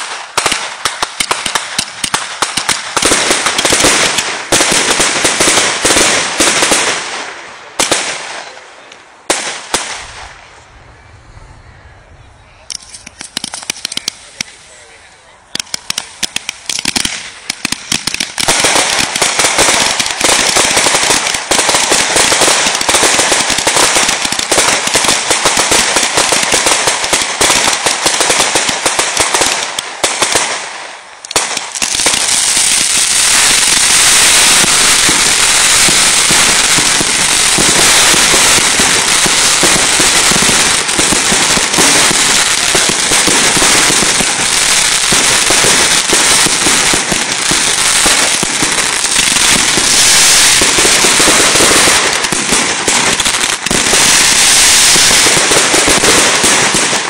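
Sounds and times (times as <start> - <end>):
fireworks crackling and bursting: 0.0 - 57.0.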